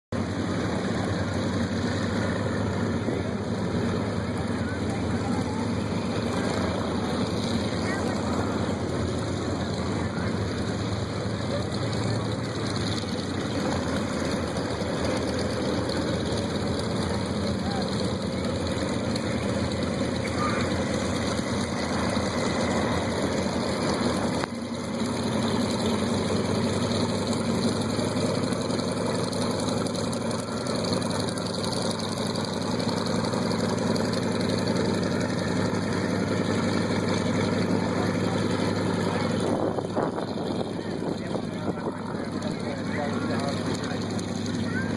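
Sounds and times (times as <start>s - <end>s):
propeller aircraft engine drone: 0.1s - 44.9s.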